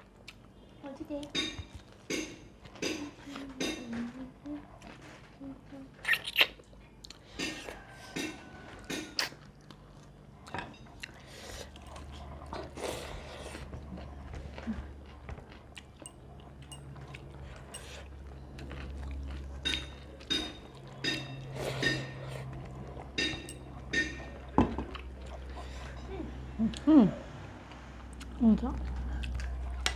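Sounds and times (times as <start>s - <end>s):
person chewing food crunchily: 0.0s - 3.6s, 4.4s - 26.9s, 27.7s - 29.9s.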